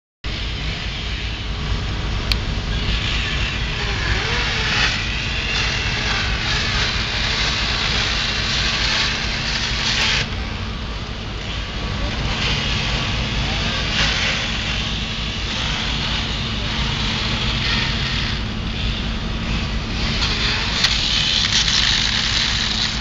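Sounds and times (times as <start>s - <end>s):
continuous hiss: 0.3s - 23.0s
fire engine rumble: 0.3s - 23.0s.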